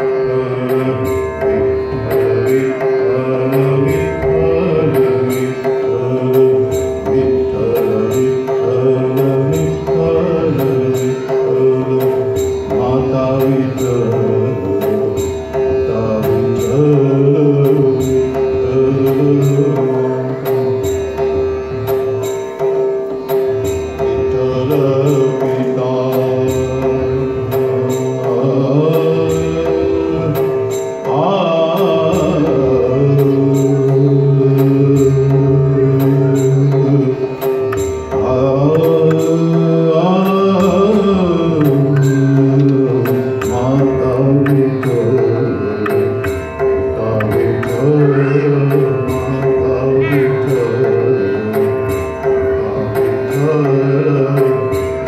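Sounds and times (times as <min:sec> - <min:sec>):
man singing into microphone: 0:00.0 - 0:21.4, 0:24.0 - 0:55.0.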